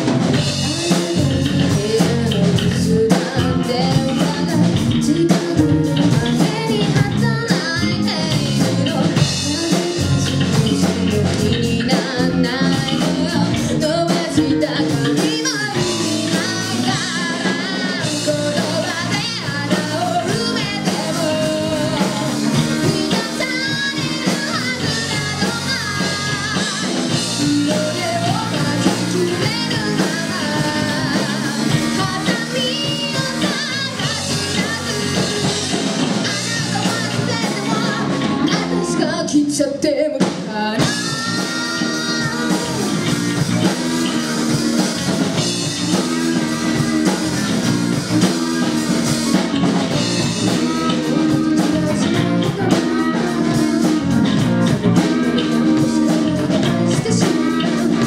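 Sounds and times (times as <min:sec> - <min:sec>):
drum kit: 0:00.0 - 0:58.0
electric guitars: 0:00.0 - 0:58.0
person singing into microphone: 0:00.0 - 0:58.0.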